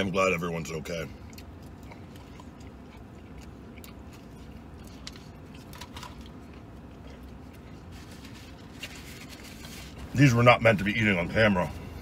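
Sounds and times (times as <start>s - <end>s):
man chewing food: 0.4s - 10.1s.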